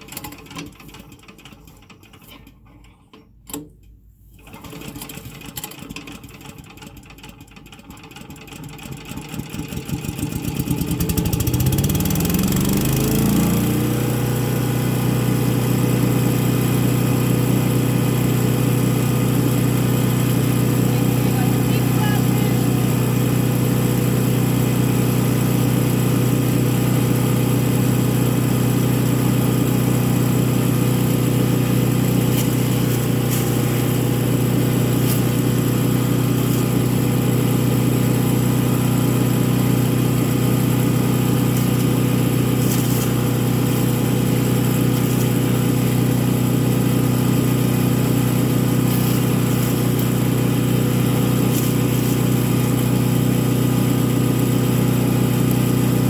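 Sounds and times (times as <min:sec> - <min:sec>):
wood chipper engine running: 0:04.4 - 0:56.0.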